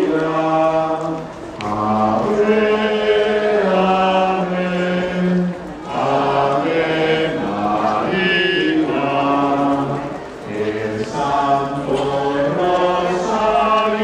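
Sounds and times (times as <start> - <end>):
group singing slow chant: 0.0 - 14.0.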